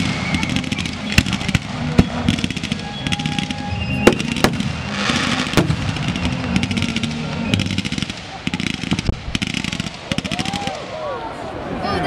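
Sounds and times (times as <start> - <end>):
fireworks hissing rush: 0.0 - 10.8
firework bangs: 0.0 - 10.9
fireworks crackling: 0.0 - 11.1.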